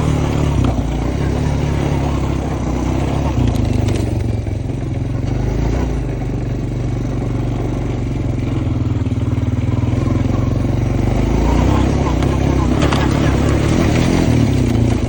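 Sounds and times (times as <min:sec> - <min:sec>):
quad bike engine running under load: 0:00.0 - 0:15.0.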